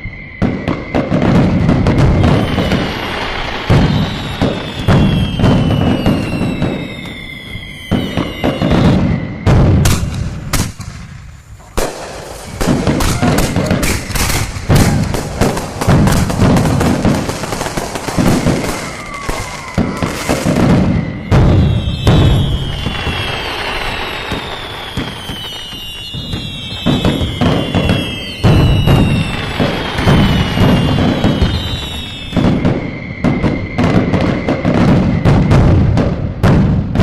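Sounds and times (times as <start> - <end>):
deep fireworks booms: 0.0 - 37.0
falling firework whistles: 0.0 - 37.0
fireworks crackling and popping: 0.0 - 37.0.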